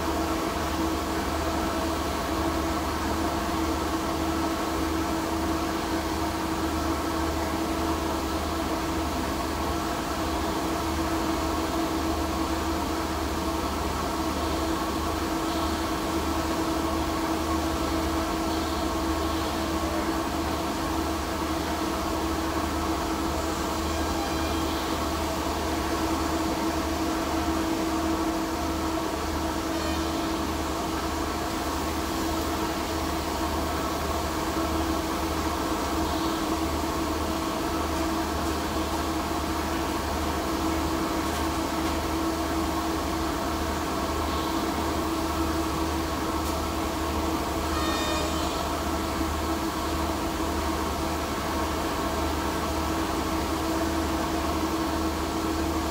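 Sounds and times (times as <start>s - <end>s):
machinery hum: 0.0s - 55.9s.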